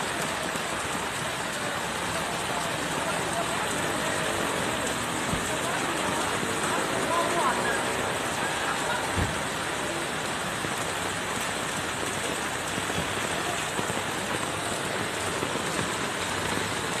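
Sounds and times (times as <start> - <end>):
heavy rain on standing water: 0.0 - 17.0.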